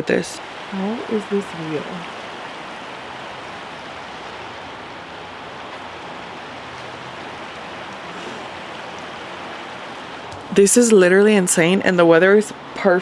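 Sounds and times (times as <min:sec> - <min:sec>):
creek flowing over rocks: 0:00.0 - 0:13.0.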